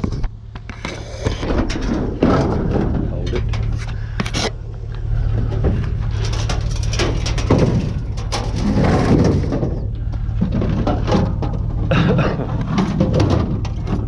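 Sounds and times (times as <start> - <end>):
heavy scrap knocking and scraping: 0.0 - 4.6, 5.2 - 14.0
low engine hum: 0.0 - 14.0.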